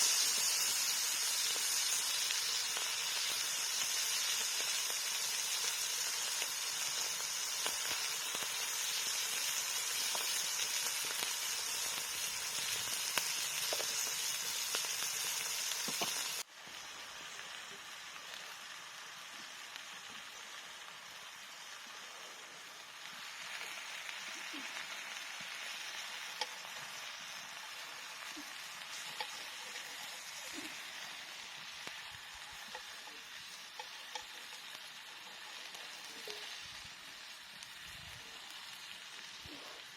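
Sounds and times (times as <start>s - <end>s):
wood fire crackling and hissing: 0.0s - 39.9s.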